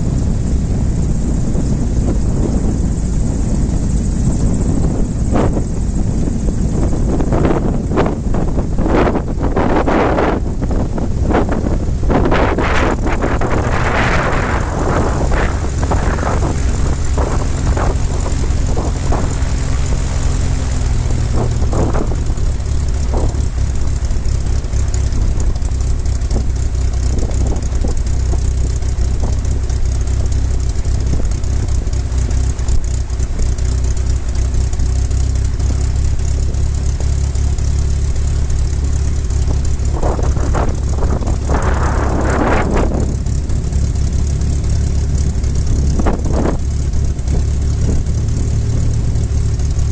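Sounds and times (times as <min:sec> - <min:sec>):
light aircraft engine running: 0:00.0 - 0:49.9
rushes of noise: 0:00.0 - 0:49.9.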